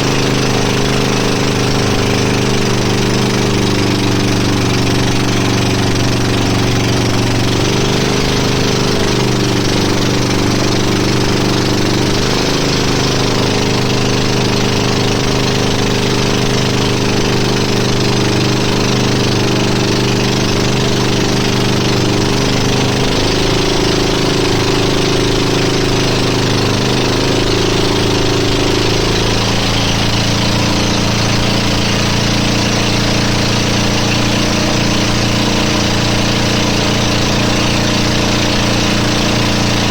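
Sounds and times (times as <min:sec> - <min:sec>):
engine running loudly: 0:00.0 - 0:39.9.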